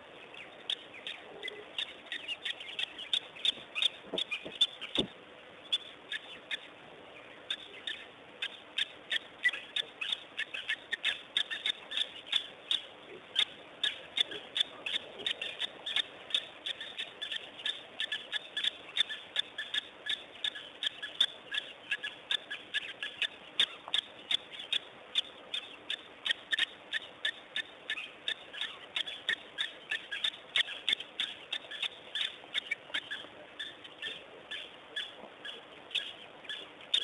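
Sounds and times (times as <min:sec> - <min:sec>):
faint background hiss: 0:00.0 - 0:37.0
animal chirping calls: 0:00.2 - 0:37.0.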